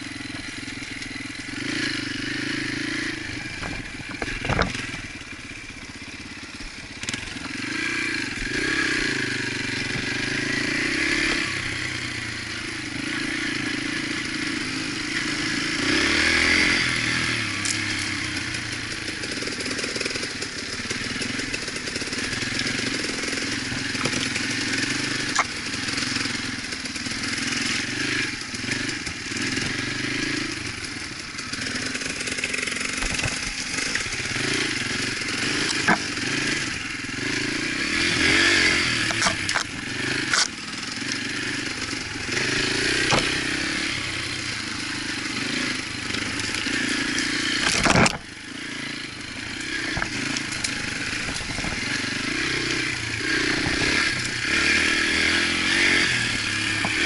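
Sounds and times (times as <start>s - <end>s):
bike rattling: 0.0s - 57.0s
dirt bike engine running: 0.0s - 57.0s.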